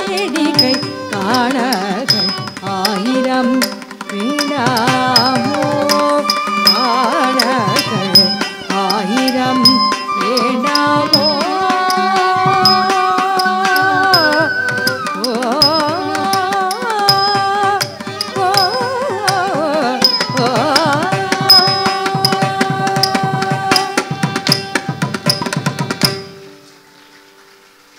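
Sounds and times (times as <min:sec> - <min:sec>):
high ringing tick keeping time: 0:00.0 - 0:24.7.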